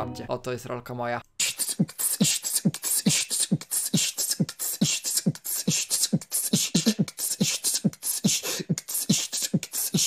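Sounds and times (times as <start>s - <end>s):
hissing hi-hat bursts: 1.4s - 10.0s.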